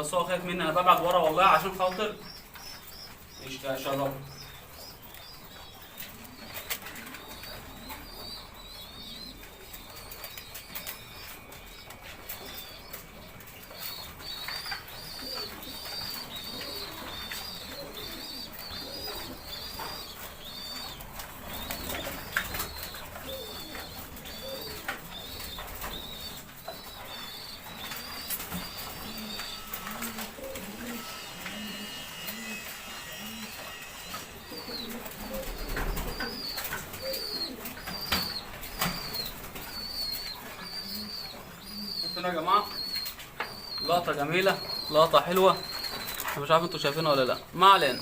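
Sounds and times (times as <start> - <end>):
high chirping: 0.0 - 48.0
pigeons cooing: 0.0 - 48.0.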